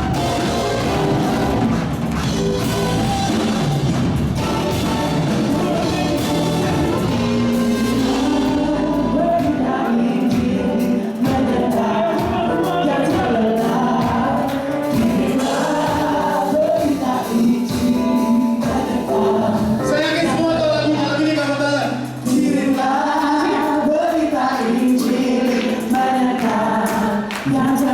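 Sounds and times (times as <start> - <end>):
band accompaniment: 0.0 - 27.9
choir singing a hymn: 0.0 - 27.9
drums keeping steady beat: 0.0 - 27.9.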